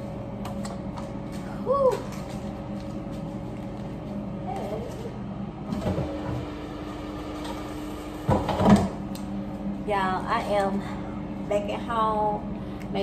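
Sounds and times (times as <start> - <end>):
low hum of kitchen appliances: 0.0 - 13.0.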